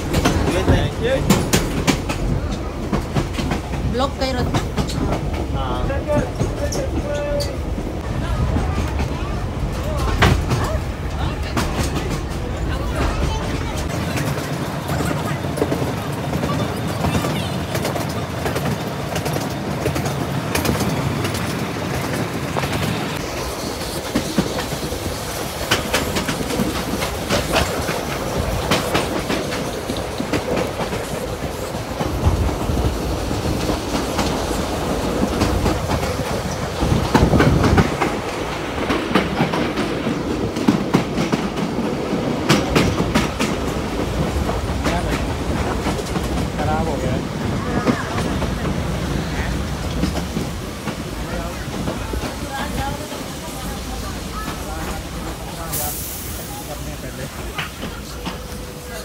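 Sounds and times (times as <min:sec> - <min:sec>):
train rumble: 0:00.0 - 0:59.0
train wheels clacking on rails: 0:00.0 - 0:59.0.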